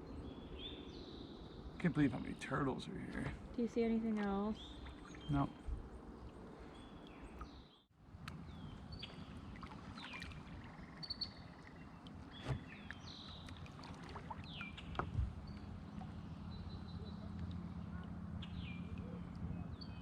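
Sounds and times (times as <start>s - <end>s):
birds chirping: 0.0s - 20.0s
kayak paddling water: 0.2s - 20.0s.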